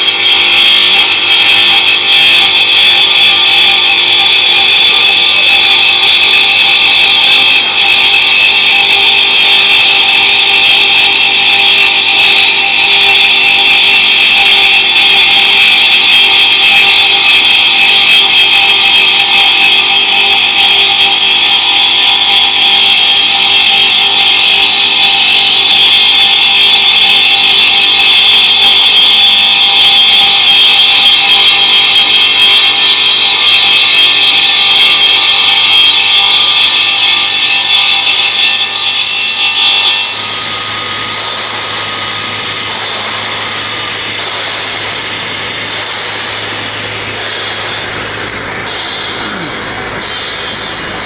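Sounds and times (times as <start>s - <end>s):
machine high-pitched whine: 0.0s - 51.0s.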